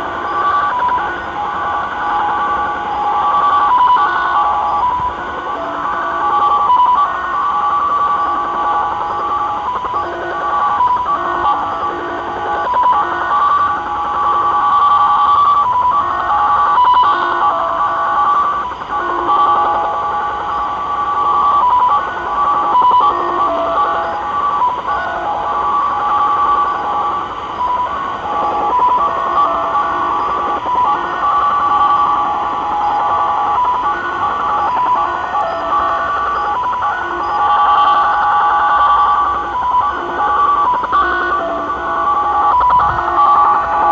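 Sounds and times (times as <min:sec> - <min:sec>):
radio static hiss: 0:00.0 - 0:43.9
warbling digital data tones: 0:00.0 - 0:43.9.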